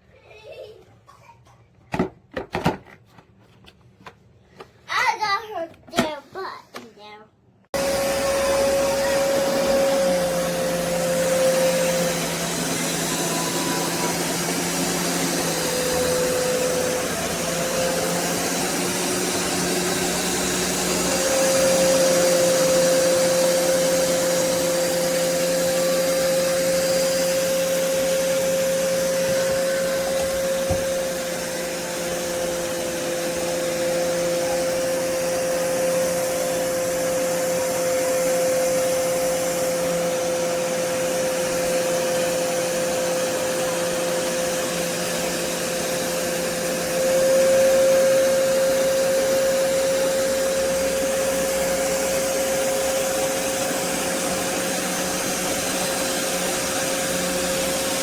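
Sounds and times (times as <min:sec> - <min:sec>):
carpet shampooer suction whine: 0:07.7 - 0:58.0.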